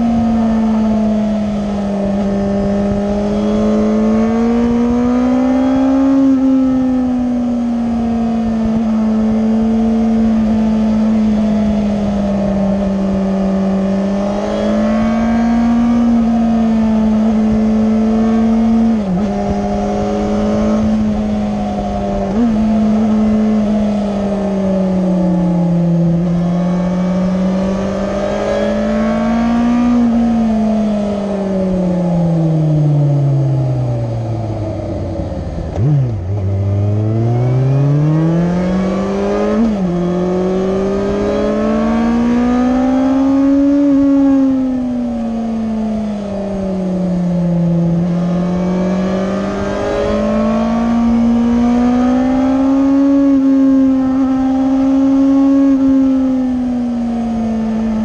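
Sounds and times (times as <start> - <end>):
motorcycle engine under way: 0.0 - 58.0.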